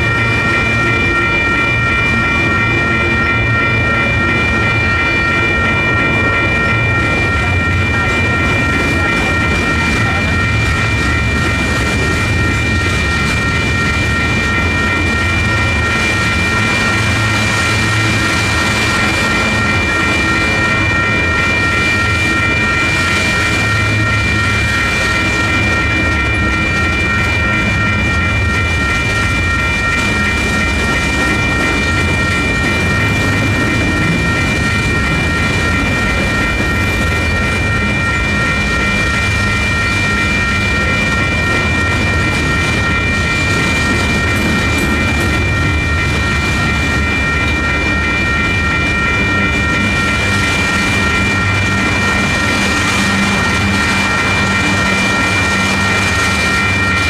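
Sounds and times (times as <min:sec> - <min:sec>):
crossing warning bells ringing: 0:00.0 - 0:57.0
train wheels rumbling and clacking: 0:00.0 - 0:57.0.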